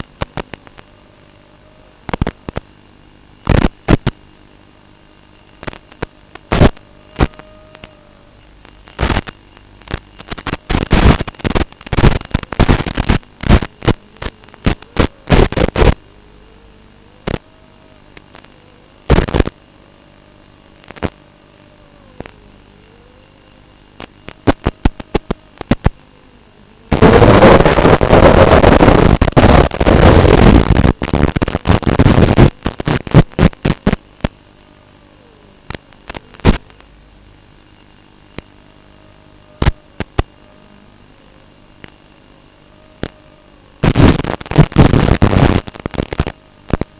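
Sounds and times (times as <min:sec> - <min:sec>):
crackling radio static: 0:00.0 - 0:46.9.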